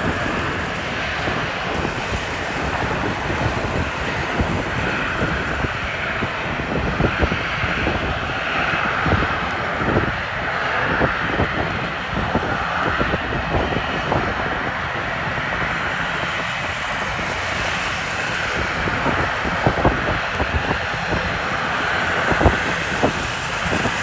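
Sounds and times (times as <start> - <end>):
jet engines running: 0.0 - 24.0
wind buffeting microphone: 0.0 - 24.0.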